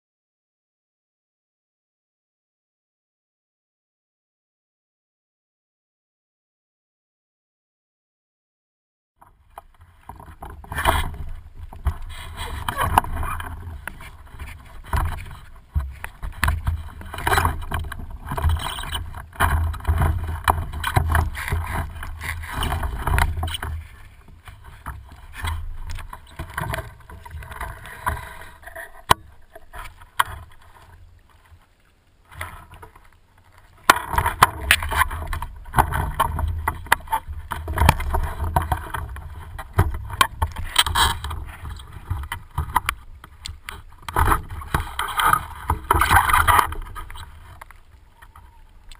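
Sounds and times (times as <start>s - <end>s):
muffled water sloshing and splashing: 9.2s - 48.9s.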